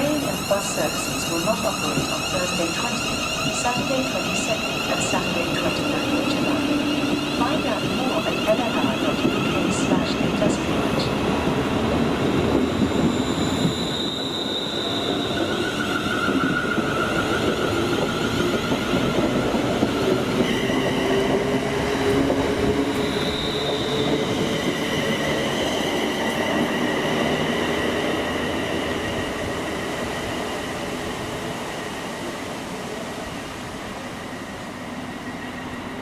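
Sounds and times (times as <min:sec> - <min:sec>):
train wheels squealing: 0:00.0 - 0:31.2
passenger train rumbling on rails: 0:00.0 - 0:36.0.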